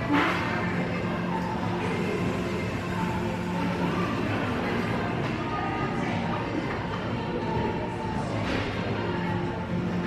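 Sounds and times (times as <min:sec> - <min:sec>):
cafe background music: 0:00.0 - 0:10.0.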